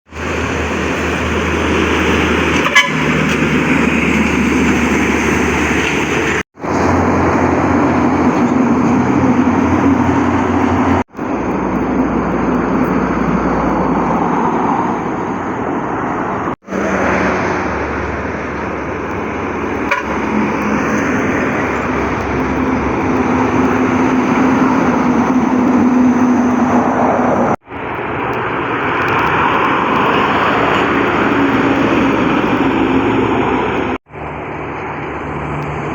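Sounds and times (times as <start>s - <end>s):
heavy trucks passing: 0.1s - 35.9s.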